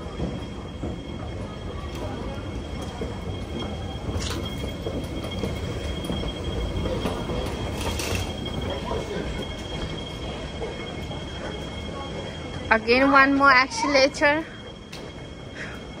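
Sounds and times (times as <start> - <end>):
moving walkway rumble: 0.0 - 16.0
faint high whine: 0.2 - 16.0.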